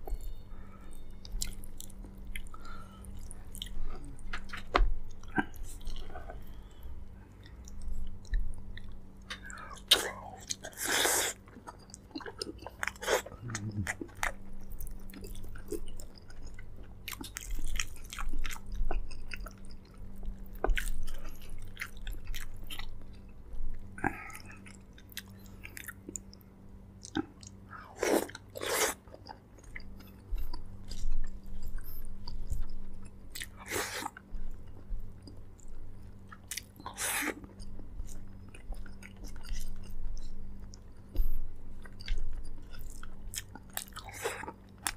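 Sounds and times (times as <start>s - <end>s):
steady low hum: 0.0s - 44.9s
close chewing and biting: 1.2s - 6.6s, 7.4s - 26.4s, 27.0s - 44.9s.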